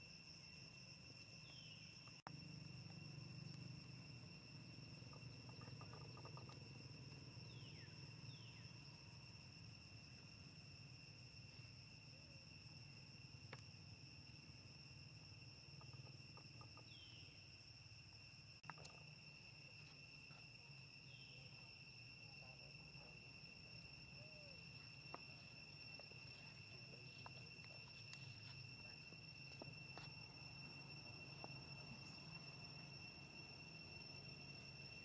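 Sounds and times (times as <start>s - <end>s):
insect trilling: 0.0s - 35.0s.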